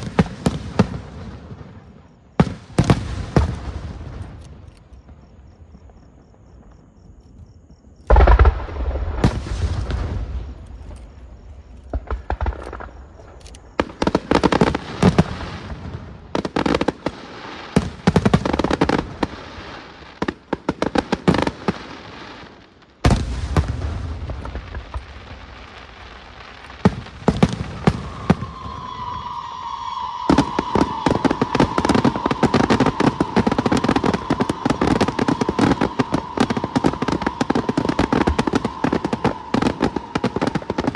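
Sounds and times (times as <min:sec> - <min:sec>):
fireworks crackling: 0:00.0 - 0:05.3, 0:08.0 - 0:40.9
firework booms: 0:00.0 - 0:06.7, 0:08.0 - 0:21.8, 0:23.0 - 0:40.9.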